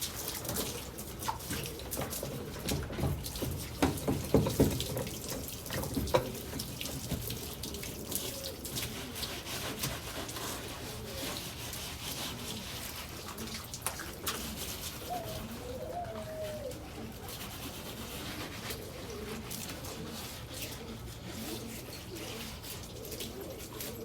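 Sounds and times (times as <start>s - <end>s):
hose water splashing on floor: 0.0s - 15.6s, 16.2s - 24.0s.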